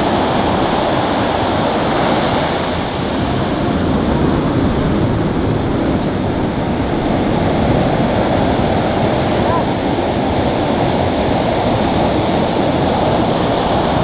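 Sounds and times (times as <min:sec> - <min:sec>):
surf washing up sand: 0:00.0 - 0:14.0
waves breaking: 0:00.0 - 0:14.0.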